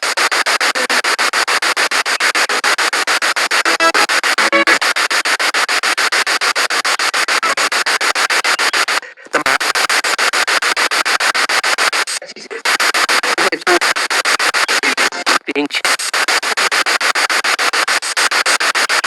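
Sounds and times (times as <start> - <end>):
pulsing radio static: 0.0 - 19.0.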